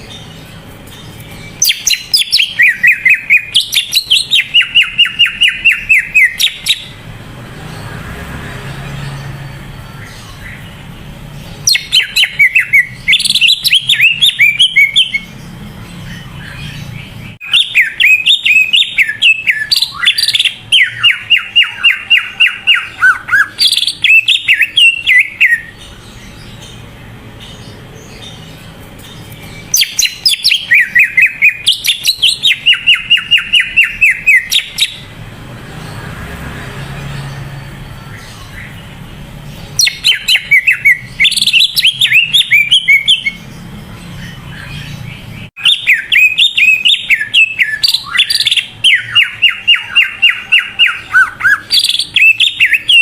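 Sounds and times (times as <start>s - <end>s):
bird chattering and trilling: 0.0s - 8.0s, 8.9s - 53.0s.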